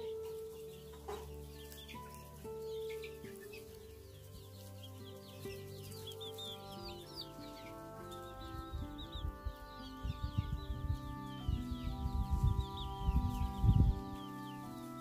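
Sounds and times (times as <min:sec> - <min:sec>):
chickens clucking: 0:00.0 - 0:15.0
soft background music: 0:00.0 - 0:15.0.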